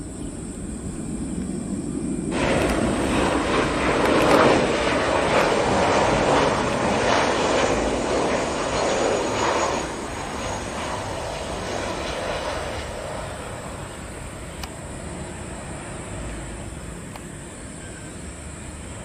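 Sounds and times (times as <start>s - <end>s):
jet engines loud rushing: 0.0s - 19.0s.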